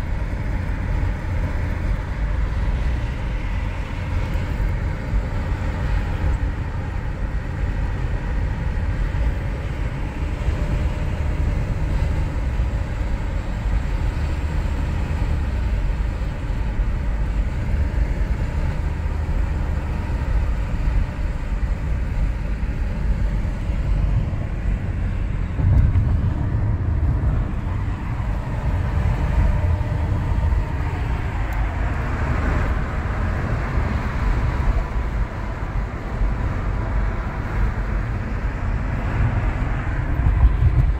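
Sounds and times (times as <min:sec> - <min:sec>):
tyre and engine rumble: 0:00.0 - 0:40.9.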